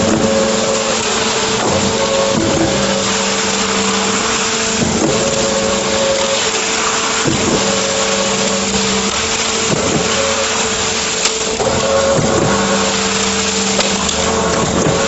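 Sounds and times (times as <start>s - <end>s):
concrete mixer pump running: 0.0s - 15.0s
wet concrete discharging: 0.0s - 15.0s.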